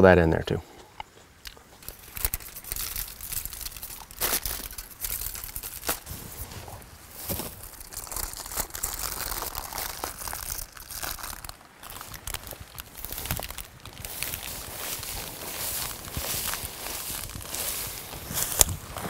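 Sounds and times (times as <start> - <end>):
aluminium foil crinkling: 1.8 - 6.1, 7.1 - 18.8.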